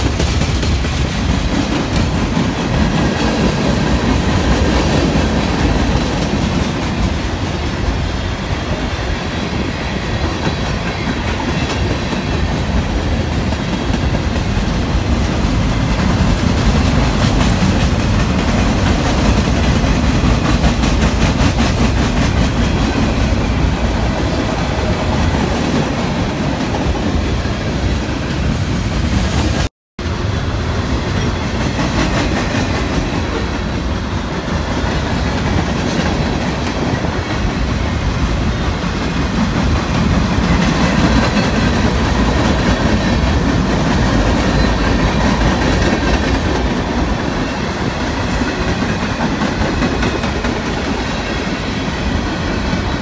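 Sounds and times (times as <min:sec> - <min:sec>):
steel wheels clacking on rail: 0:00.0 - 0:53.0
train cars rumbling past: 0:00.0 - 0:53.0.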